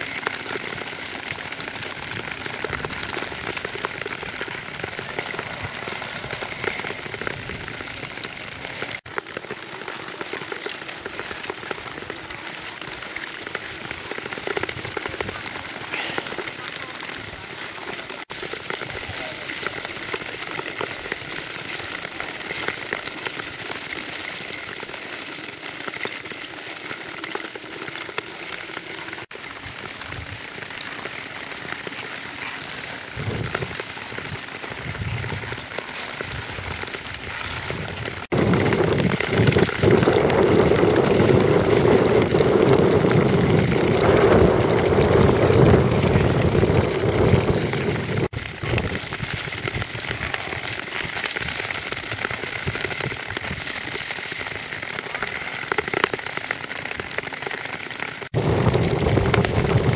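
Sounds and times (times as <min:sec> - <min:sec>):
skate blades scraping on ice: 0:00.0 - 0:29.3, 0:29.9 - 0:59.9.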